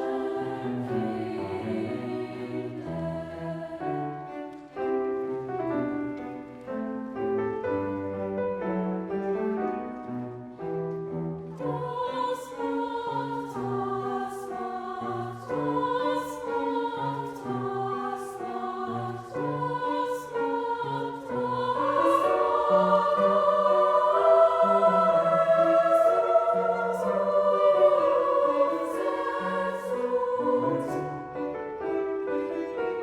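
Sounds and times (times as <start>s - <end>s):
choir singing: 0.0s - 7.0s, 9.0s - 33.0s
piano accompaniment: 0.0s - 33.0s.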